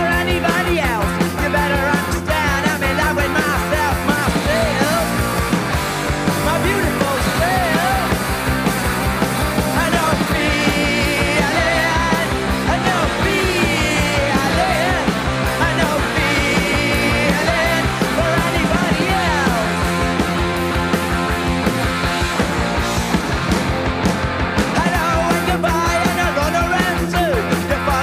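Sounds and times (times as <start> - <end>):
shouted lead vocal: 0.0 - 8.6, 9.4 - 21.3, 24.6 - 28.0
bass guitar: 0.0 - 28.0
drums: 0.0 - 28.0
electric guitar: 0.0 - 28.0.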